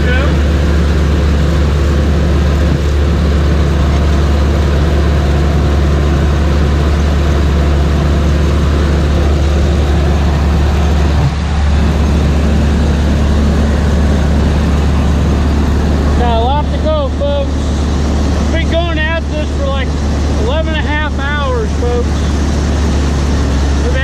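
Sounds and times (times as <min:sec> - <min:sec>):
combine engine drone: 0:00.0 - 0:24.0.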